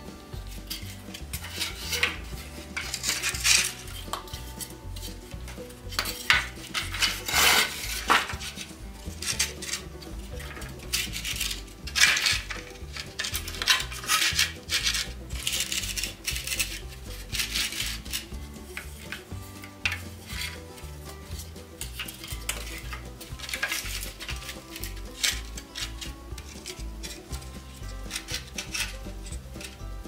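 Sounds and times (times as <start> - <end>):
quiet background music: 0.0 - 30.0
wooden boards scraping on concrete: 0.0 - 30.0.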